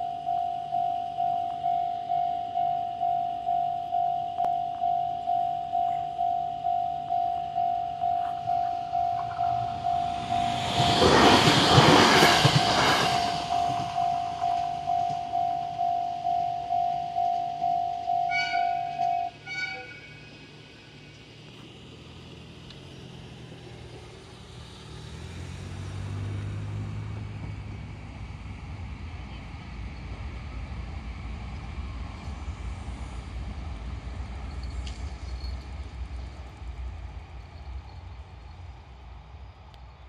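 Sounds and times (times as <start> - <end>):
train rushing past: 6.0 - 40.0.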